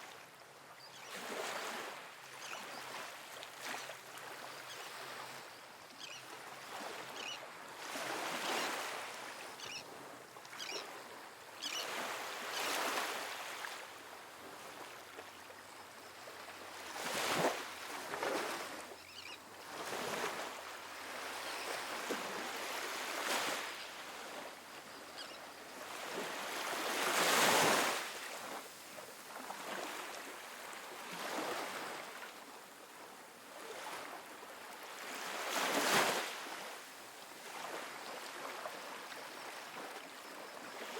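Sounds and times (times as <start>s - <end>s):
waves washing up a beach: 1.1s - 40.9s.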